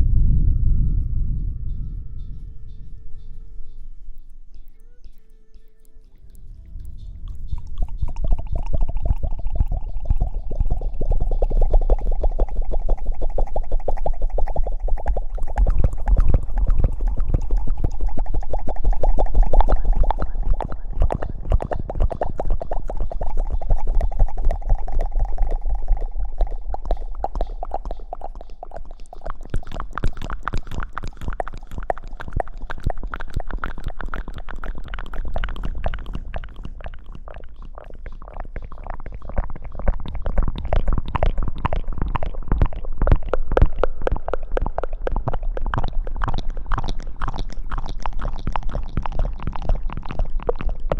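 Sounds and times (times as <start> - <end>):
rustling and scrubbing crackle: 2.3 - 50.9.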